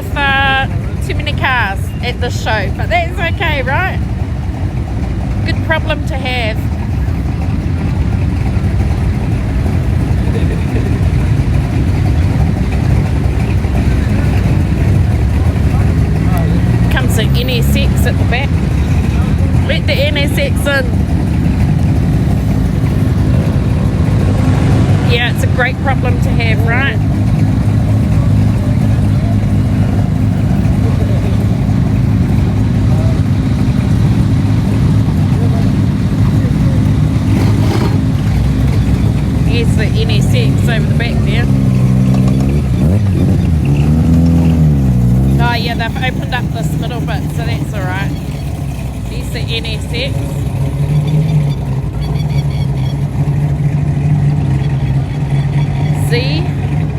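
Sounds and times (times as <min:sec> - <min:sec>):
faint voices: 0:00.0 - 0:43.4, 0:45.2 - 0:50.8, 0:54.0 - 0:56.9
car engines rumbling: 0:00.0 - 0:56.9.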